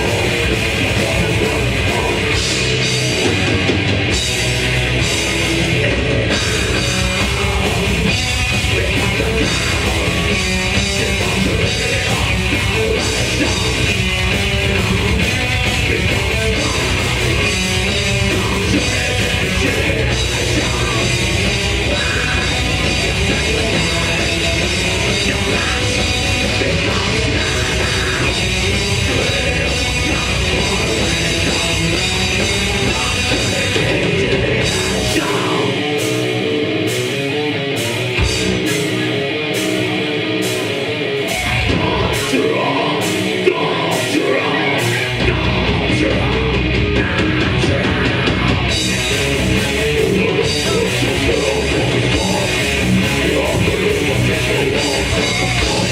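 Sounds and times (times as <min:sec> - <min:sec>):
distorted electric guitars: 0:00.0 - 0:55.9
fast drum kit: 0:00.0 - 0:55.9
metal band playing live: 0:00.0 - 0:55.9.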